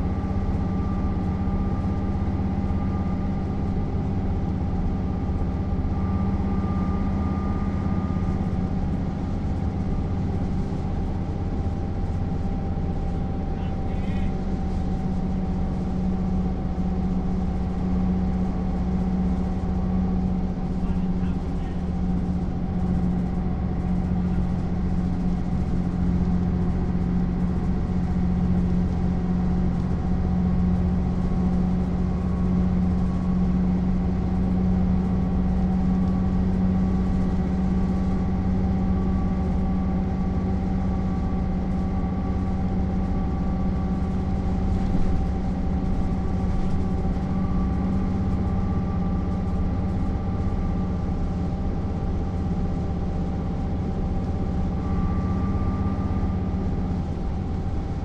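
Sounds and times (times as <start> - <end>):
bus diesel engine drone: 0.0 - 58.0.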